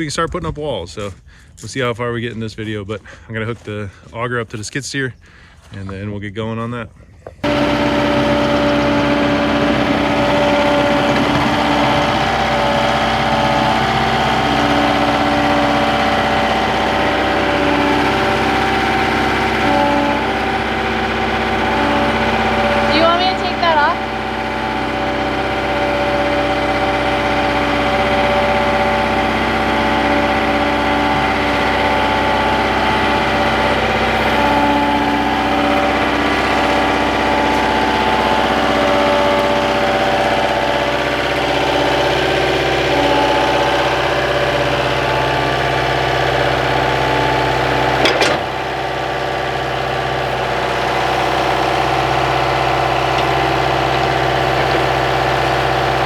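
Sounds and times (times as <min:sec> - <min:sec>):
skid steer engine idling: 0:07.4 - 0:56.0.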